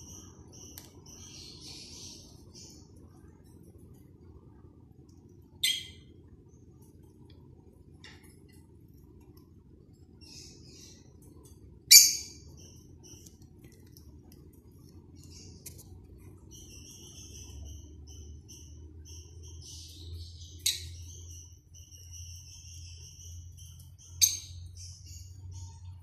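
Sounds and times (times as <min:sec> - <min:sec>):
faint chirps and clicks: 0:00.0 - 0:26.0.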